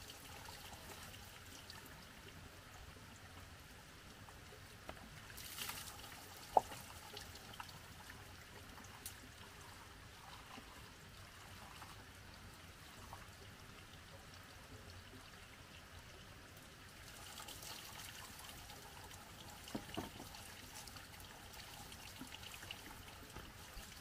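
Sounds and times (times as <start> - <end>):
water trickling: 0.0 - 24.0.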